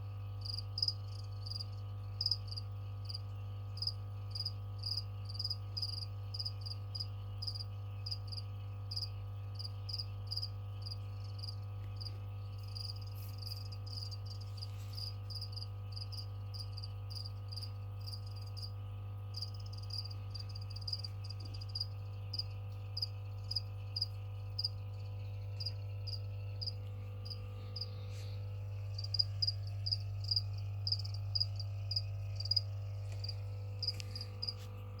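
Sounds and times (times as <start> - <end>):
low electrical hum: 0.0 - 35.0
cricket chirping: 0.3 - 35.0.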